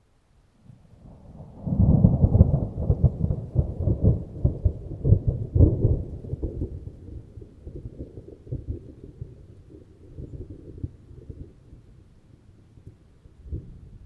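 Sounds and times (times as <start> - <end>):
thunder rolling with crackles: 0.6 - 14.0.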